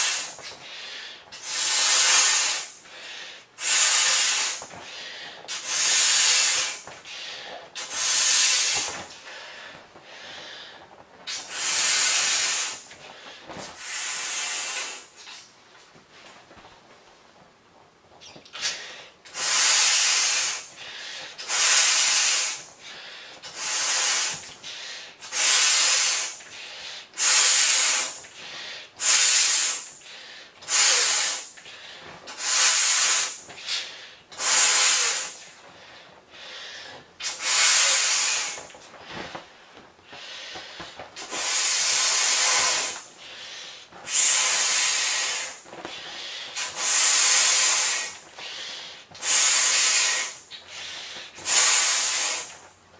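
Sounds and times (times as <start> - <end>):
air hissing through valve: 0.0 - 10.6, 11.2 - 15.5, 18.5 - 35.6, 36.4 - 38.8, 40.1 - 52.7.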